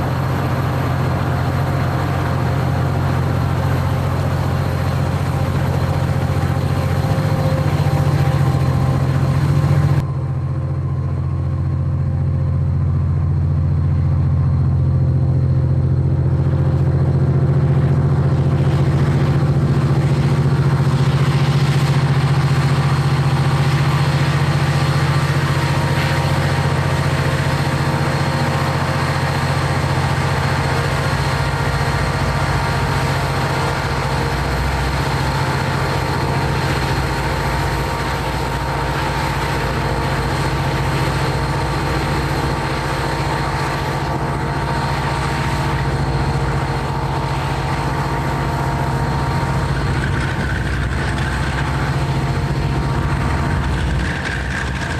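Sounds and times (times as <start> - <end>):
heavy diesel engines droning: 0.0 - 54.9.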